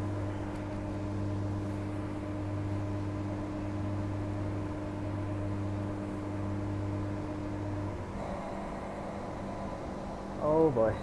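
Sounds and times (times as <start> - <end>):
electrical drone: 0.0 - 11.0.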